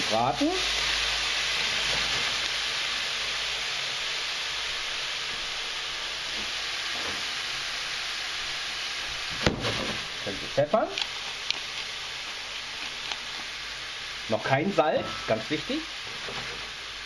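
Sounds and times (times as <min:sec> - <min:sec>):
food sizzling in a hot pan: 0:00.0 - 0:17.0.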